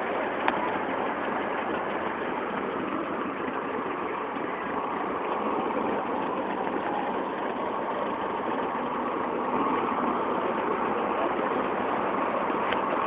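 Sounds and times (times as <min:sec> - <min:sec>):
sports car engines passing slowly: 0:00.0 - 0:13.0.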